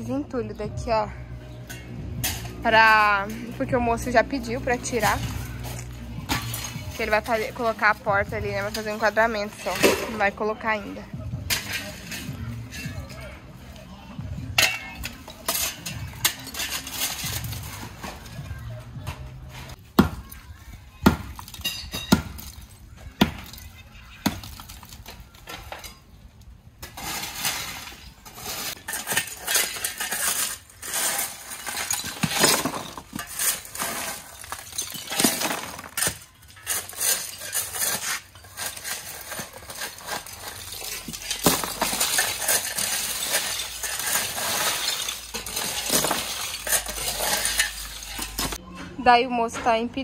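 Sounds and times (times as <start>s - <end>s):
shovels scraping rubble: 0.0s - 48.6s
shards clinking and crunching: 1.5s - 10.6s, 11.4s - 13.8s, 14.4s - 18.7s, 21.3s - 48.6s.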